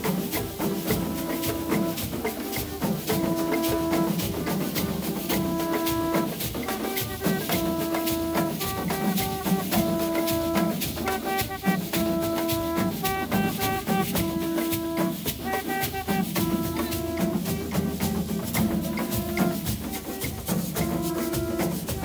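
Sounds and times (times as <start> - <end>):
drums beating fast rhythm: 0.0 - 22.0
conch shell blasts: 0.9 - 22.0.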